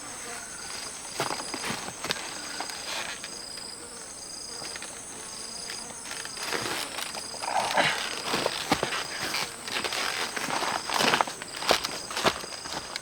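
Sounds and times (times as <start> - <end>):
insects shrilling: 0.0 - 13.0
rustling and crunching: 0.2 - 3.8, 4.5 - 13.0.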